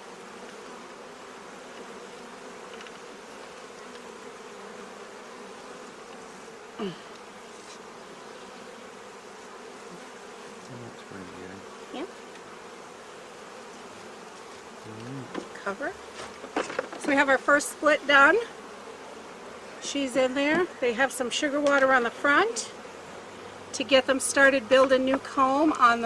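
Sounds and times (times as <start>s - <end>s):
bees buzzing: 0.0s - 26.0s
single bee buzz sliding in pitch: 0.0s - 26.0s.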